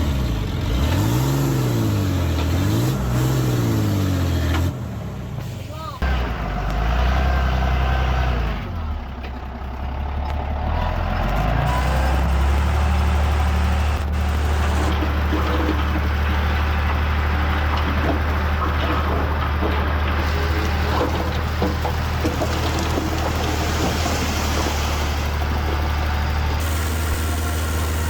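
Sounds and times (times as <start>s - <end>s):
heavy machinery diesel engine droning: 0.0s - 28.0s.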